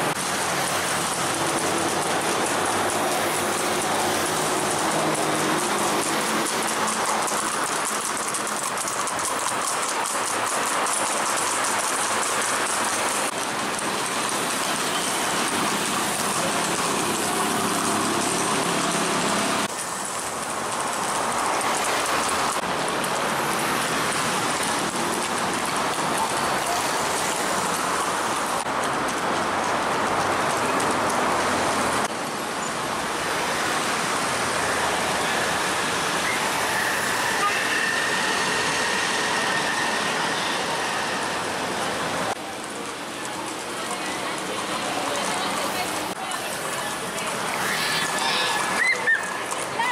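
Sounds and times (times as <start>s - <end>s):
horse hooves on pavement: 0.0s - 49.9s.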